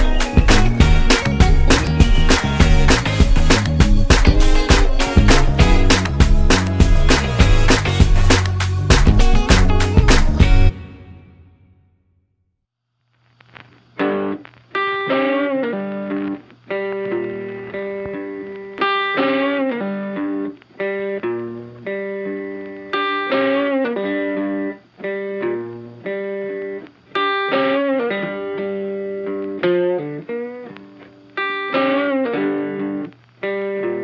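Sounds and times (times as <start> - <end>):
plucked guitar melody: 0.0 - 11.4, 14.0 - 34.0.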